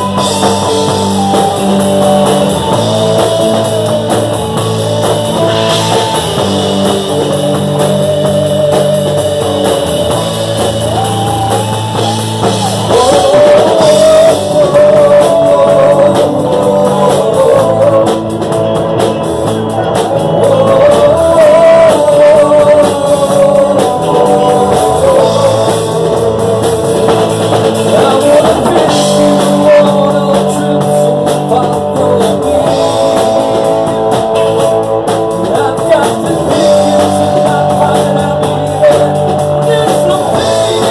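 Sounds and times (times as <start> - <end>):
electric guitar: 0.0 - 40.9
person singing into a microphone: 0.0 - 40.9
rock band playing: 0.0 - 40.9.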